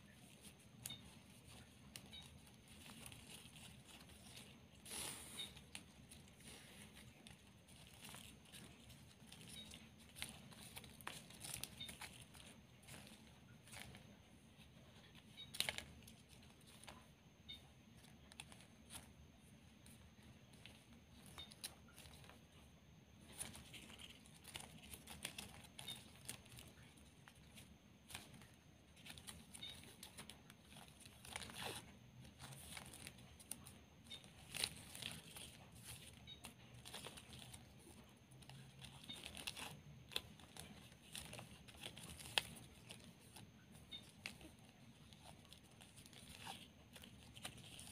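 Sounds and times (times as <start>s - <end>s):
ribbon rustling and crinkling: 0.0s - 47.9s.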